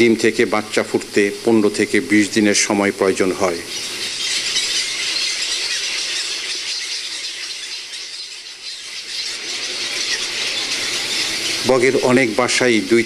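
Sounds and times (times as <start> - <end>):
herons squealing: 0.0 - 13.0.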